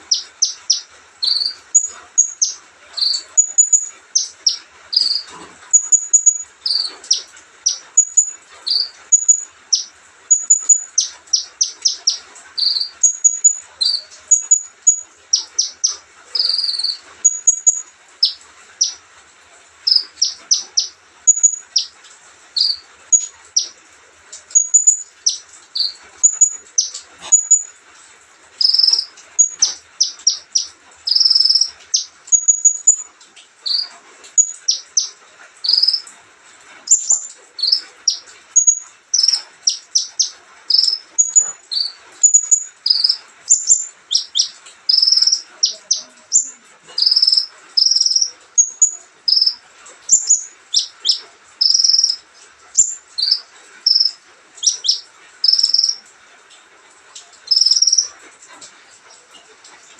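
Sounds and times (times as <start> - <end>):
bird singing high chirps and trills: 0.0 - 19.0, 19.9 - 22.0, 22.6 - 23.8, 24.4 - 27.7, 28.6 - 36.1, 36.9 - 52.2, 52.8 - 56.0, 57.4 - 58.1.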